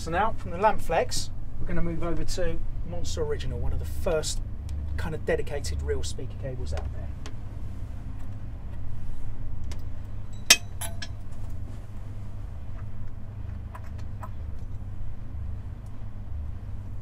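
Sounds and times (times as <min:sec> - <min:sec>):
low room rumble: 0:00.0 - 0:17.0.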